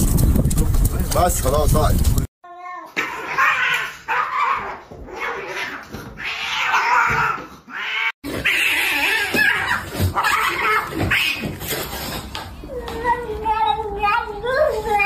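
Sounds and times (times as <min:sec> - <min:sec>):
cats fighting and yowling: 0:02.5 - 0:15.0.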